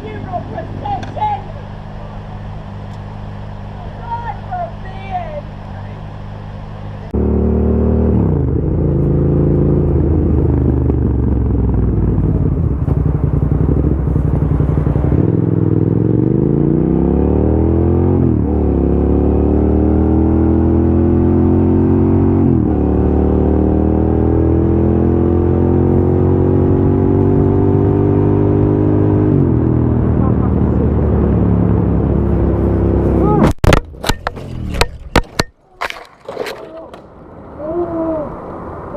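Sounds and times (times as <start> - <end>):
vehicle engine accelerating: 0.0 - 35.2.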